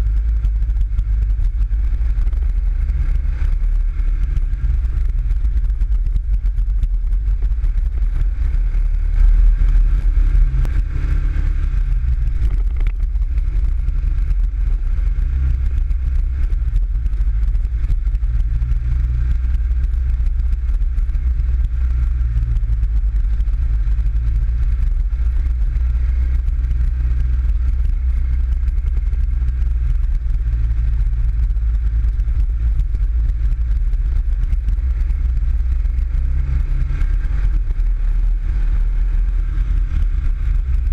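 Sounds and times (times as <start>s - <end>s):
buggy engine rumbling: 0.0s - 40.9s.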